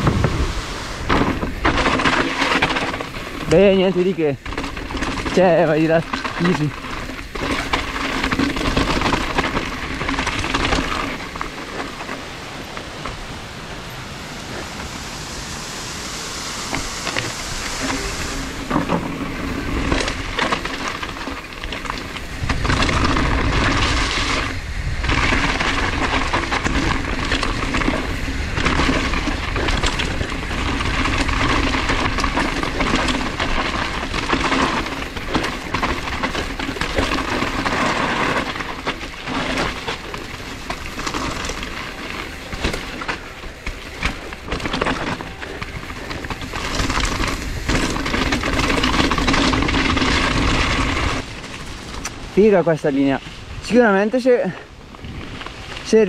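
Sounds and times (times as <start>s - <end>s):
wind on microphone: 0.0s - 3.6s, 6.6s - 52.4s, 54.7s - 55.8s
bike knocks and rattles: 0.0s - 13.3s, 16.7s - 56.0s
bike tyres rumbling on dirt: 0.0s - 56.0s.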